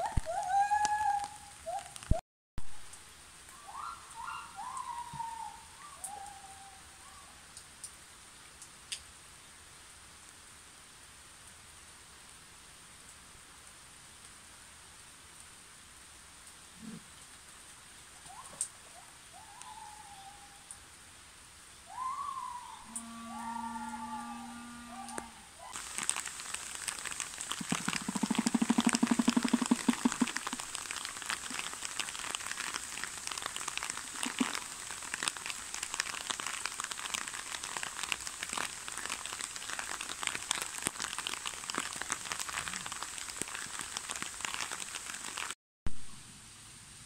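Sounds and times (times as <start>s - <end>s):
rain pattering: 0.0s - 19.8s, 25.1s - 45.6s.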